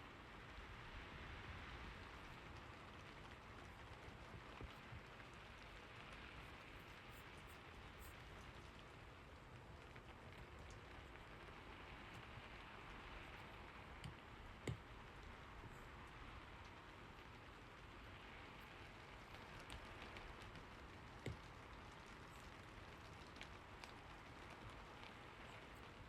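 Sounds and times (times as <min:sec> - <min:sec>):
faint rain falling: 0:00.0 - 0:26.0.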